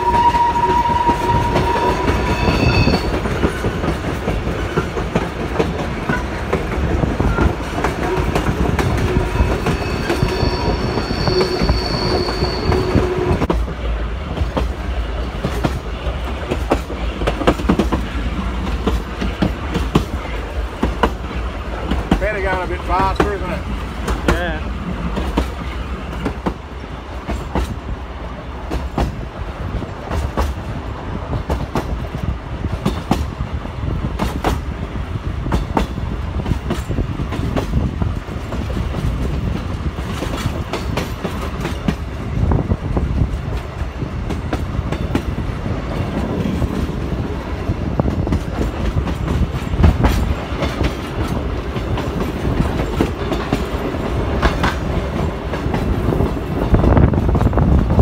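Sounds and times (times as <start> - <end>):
train rumble on track: 0.0 - 58.0.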